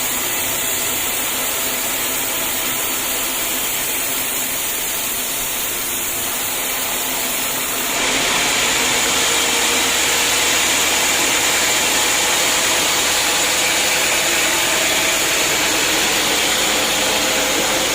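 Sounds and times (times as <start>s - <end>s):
sawmill machinery whirring: 0.0s - 17.9s.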